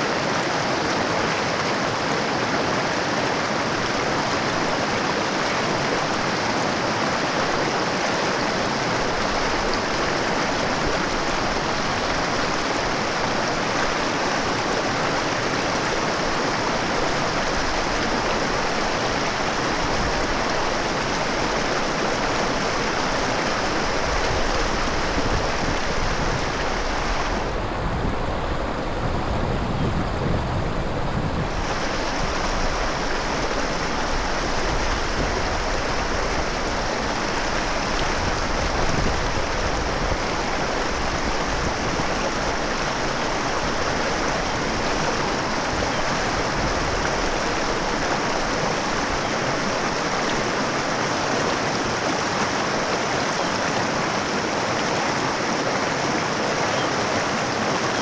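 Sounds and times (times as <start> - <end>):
deep water rumble: 0.0 - 58.0
mountain river running: 0.0 - 58.0.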